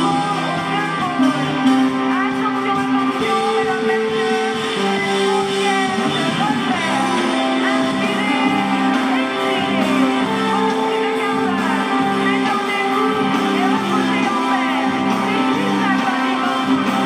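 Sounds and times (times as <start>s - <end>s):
live rock band music: 0.0s - 17.0s
person singing: 0.0s - 17.0s.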